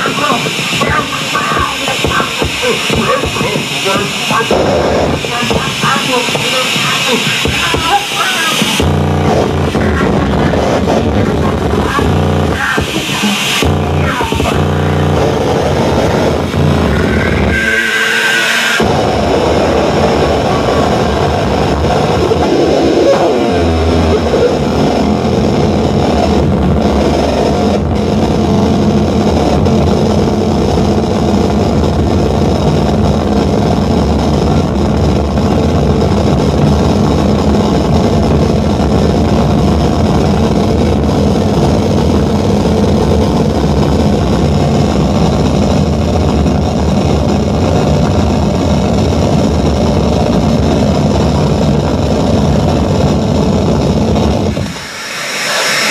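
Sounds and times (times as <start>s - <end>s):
dense electronic noise music: 0.0s - 55.9s
low rumble: 0.0s - 55.9s.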